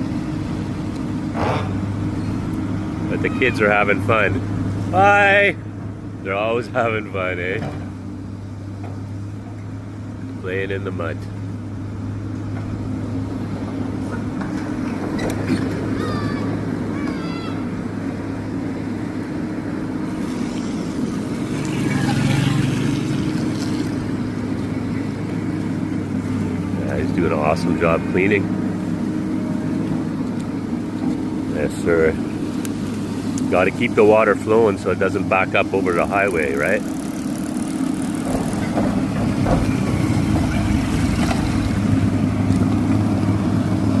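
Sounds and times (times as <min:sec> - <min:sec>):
excavator engine running: 0:00.0 - 0:44.0.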